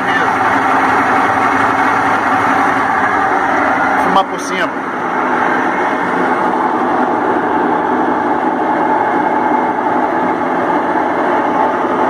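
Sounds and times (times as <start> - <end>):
constant whine: 0.0 - 12.0
washing machine spinning: 0.0 - 12.0.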